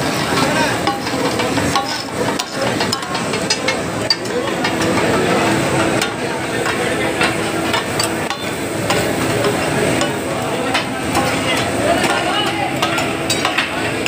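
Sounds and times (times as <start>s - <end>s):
metal spatulas clacking on griddle: 0.1s - 14.0s.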